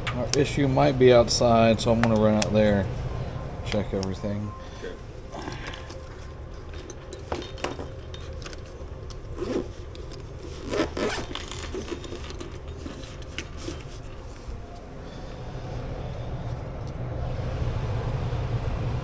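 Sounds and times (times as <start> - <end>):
low steady hum: 0.0 - 19.0
rustling and scraping of gear: 0.4 - 17.0.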